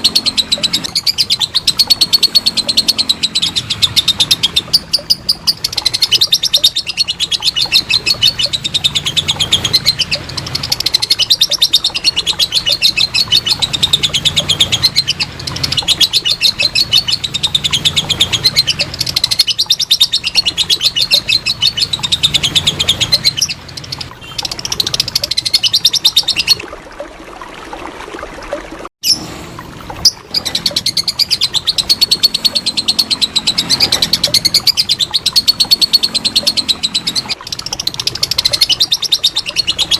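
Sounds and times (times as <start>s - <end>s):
lovebird chattering trill: 0.0s - 26.6s, 30.0s - 39.9s.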